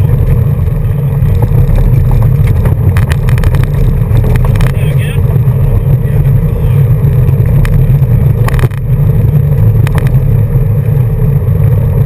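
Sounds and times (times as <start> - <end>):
rally car engine running hard: 0.0 - 12.0.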